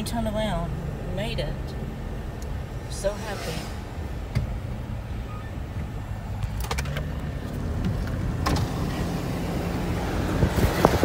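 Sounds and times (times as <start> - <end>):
road and engine noise in car: 0.0 - 11.0.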